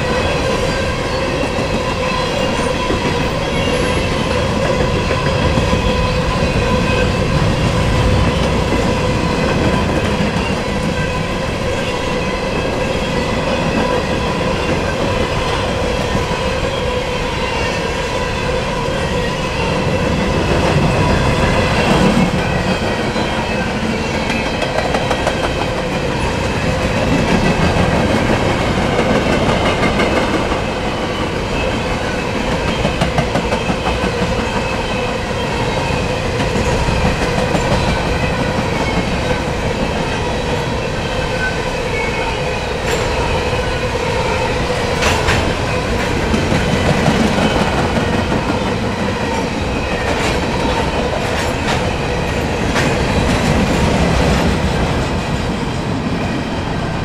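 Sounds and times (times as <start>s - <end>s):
freight train rumbling past: 0.0s - 57.0s
wheels ringing on rails: 0.0s - 57.0s.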